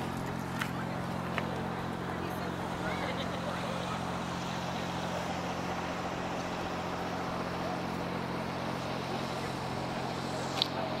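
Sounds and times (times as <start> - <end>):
outdoor noise: 0.0 - 11.0
vehicle engine idling: 0.0 - 11.0.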